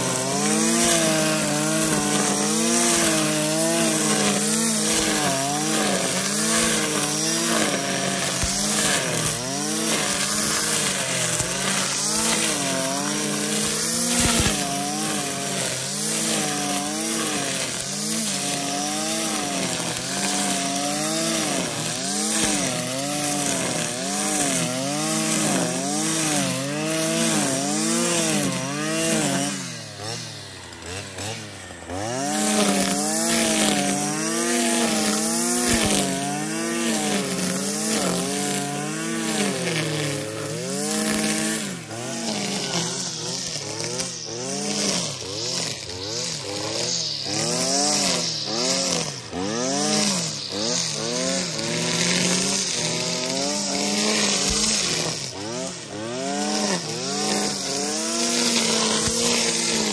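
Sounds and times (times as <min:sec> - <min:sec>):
brushcutter engine at high throttle: 0:00.0 - 0:59.9.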